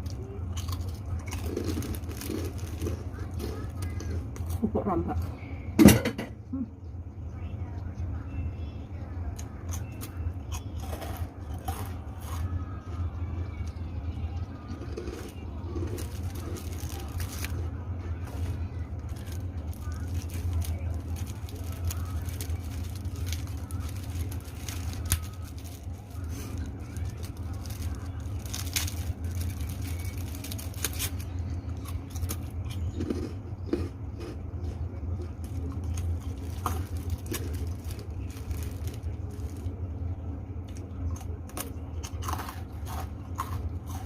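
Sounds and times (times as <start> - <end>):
crackers being crunched: 0.0 - 4.8, 9.2 - 44.0
low hum: 0.0 - 44.0.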